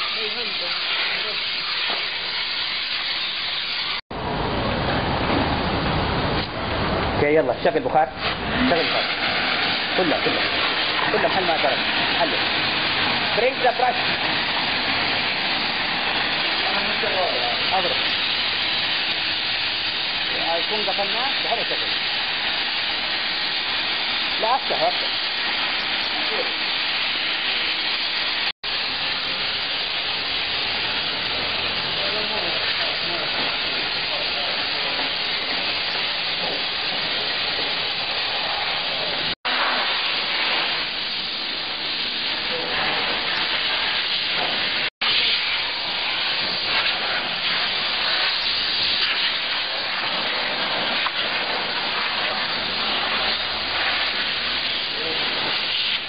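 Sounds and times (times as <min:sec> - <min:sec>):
steam cleaner hissing: 0:00.0 - 0:04.0, 0:06.3 - 0:56.0.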